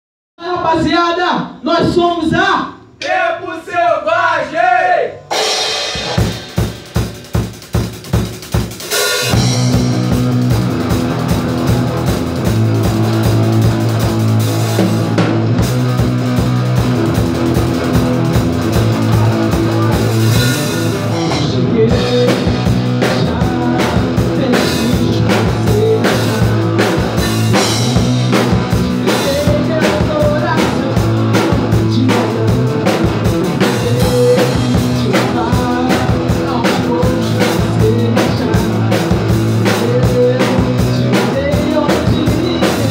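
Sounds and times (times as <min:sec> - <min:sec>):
drum hits: 0:05.2 - 0:42.9
rock band playing live: 0:05.2 - 0:42.9.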